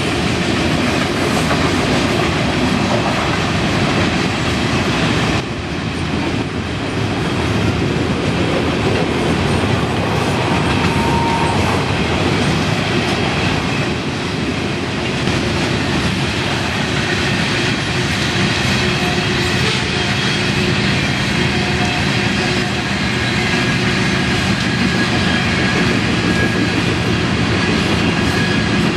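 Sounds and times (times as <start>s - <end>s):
freight train wheels clattering: 0.0s - 28.9s.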